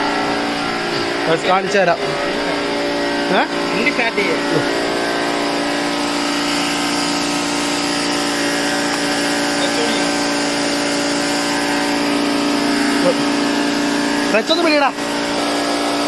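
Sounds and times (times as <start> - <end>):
motor humming steadily: 0.0 - 16.0.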